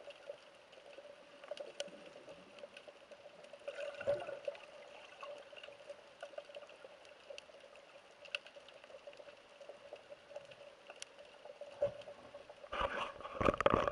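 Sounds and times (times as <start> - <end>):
faint underwater hum: 0.0 - 13.9
small clicks and crackles: 0.0 - 13.9.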